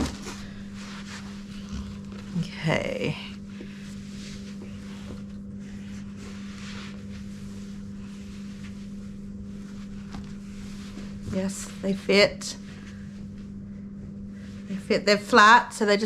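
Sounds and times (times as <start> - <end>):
low background hum with hiss: 0.0 - 16.0.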